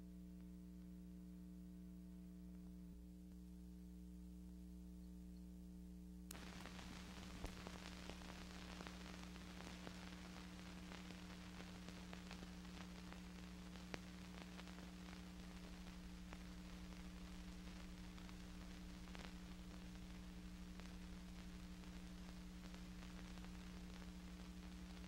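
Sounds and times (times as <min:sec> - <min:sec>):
faint electrical hum: 0:00.0 - 0:25.0
film hiss with crackles and pops: 0:00.0 - 0:25.0.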